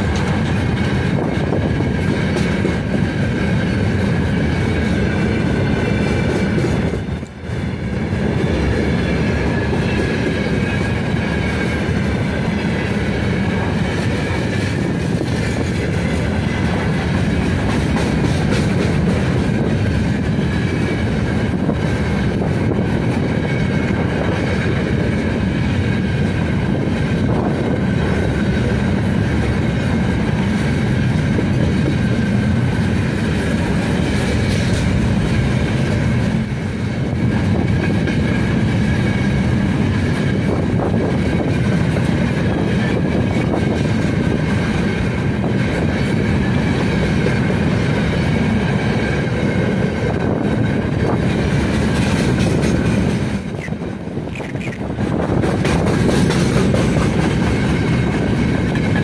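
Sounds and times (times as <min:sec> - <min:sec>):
clickety-clack of wheels: 0:00.0 - 0:59.0
freight train wheels rumbling: 0:00.0 - 0:59.0.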